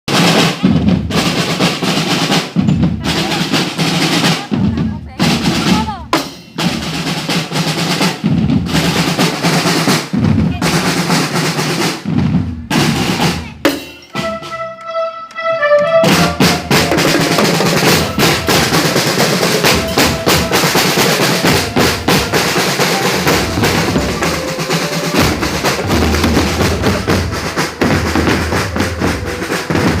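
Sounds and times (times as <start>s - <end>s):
snare and bass drums playing: 0.1s - 30.0s.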